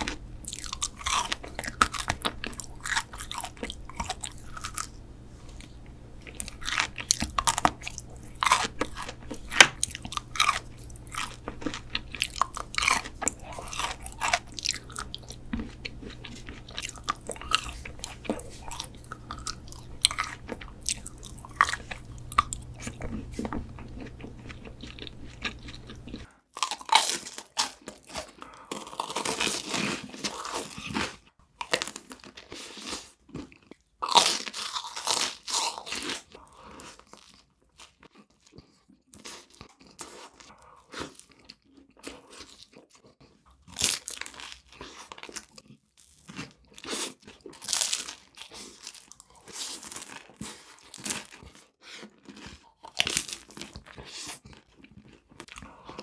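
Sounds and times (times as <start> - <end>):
person crunching food: 0.0 - 56.0
quiet chewing: 0.0 - 56.0.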